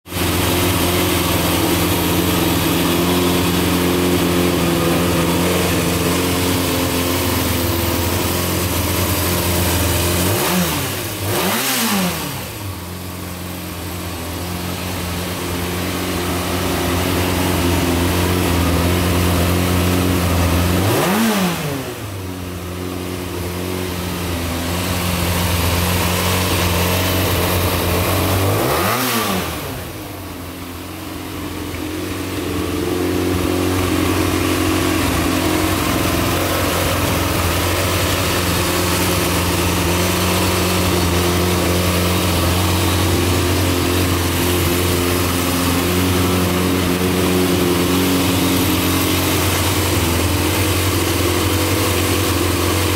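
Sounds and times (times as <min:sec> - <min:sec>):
motorcycle engine idling: 0:00.1 - 0:52.9.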